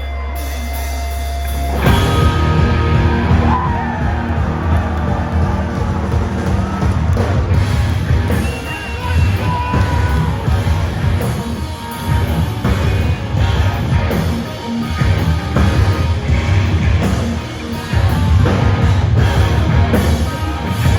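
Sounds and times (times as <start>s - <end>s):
heavy rock band playing: 0.0s - 20.9s.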